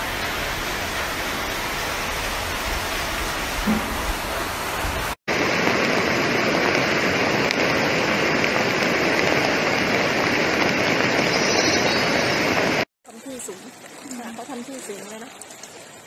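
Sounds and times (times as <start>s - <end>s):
floodwater rushing over rocks: 0.0s - 16.0s.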